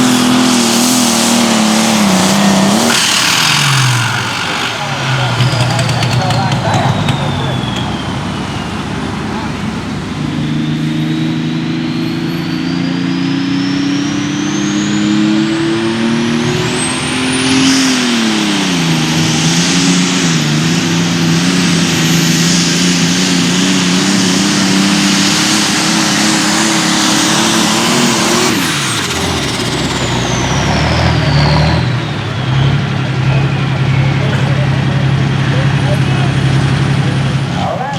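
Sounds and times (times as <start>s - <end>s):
turbo whistle: 0.0s - 18.1s, 22.1s - 35.0s
tractor engine at full throttle: 0.0s - 37.9s.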